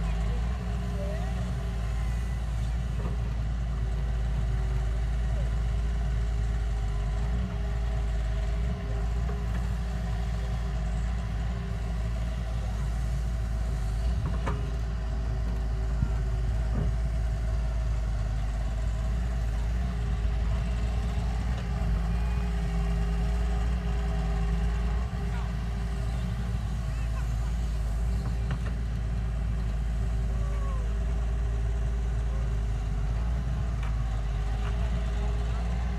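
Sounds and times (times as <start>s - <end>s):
heavy equipment engine rumbling: 0.0s - 35.9s.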